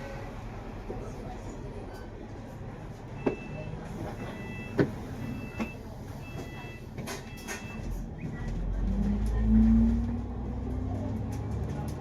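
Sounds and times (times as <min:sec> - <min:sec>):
bus engine: 0:00.0 - 0:12.0.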